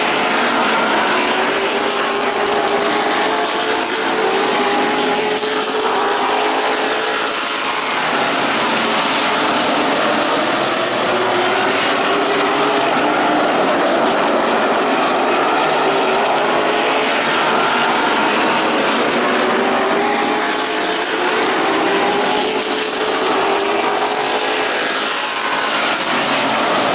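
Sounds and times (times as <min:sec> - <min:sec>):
race car engines passing by: 0:00.0 - 0:26.9.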